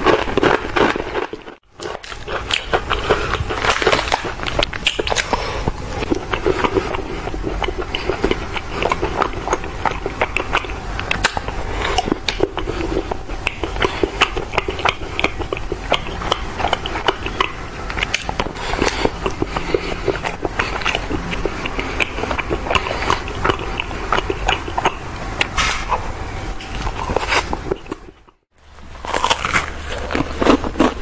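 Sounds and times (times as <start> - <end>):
wet chewing clicks: 0.0 - 31.0.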